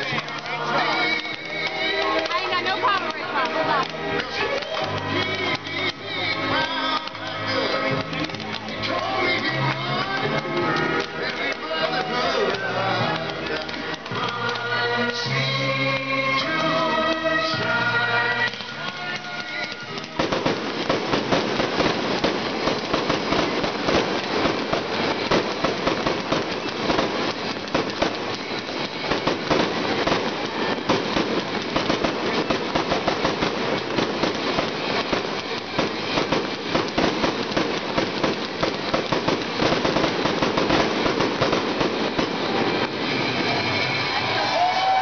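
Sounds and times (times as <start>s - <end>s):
fireworks bangs and crackling: 0.0s - 45.0s.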